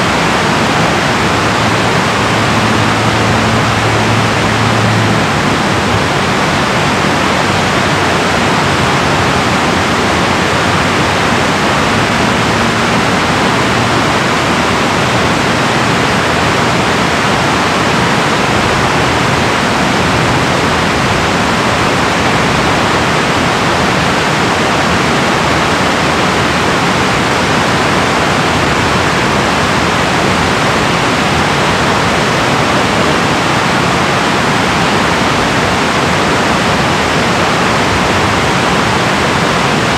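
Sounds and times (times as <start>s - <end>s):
water rushing over dam: 0.0s - 39.9s.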